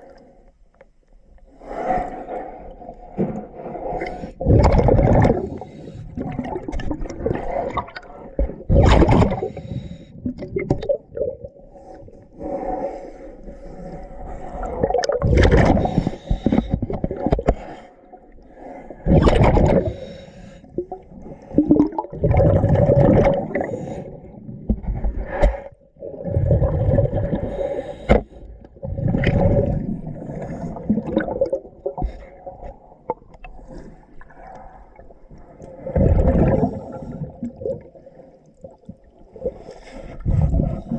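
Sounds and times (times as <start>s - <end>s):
exhaled bubbles underwater: 3.0s - 12.0s, 14.2s - 17.7s, 19.0s - 40.9s.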